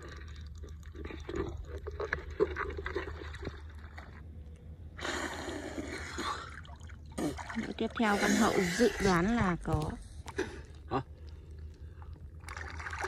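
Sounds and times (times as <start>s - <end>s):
muddy water sloshing: 0.0s - 13.0s.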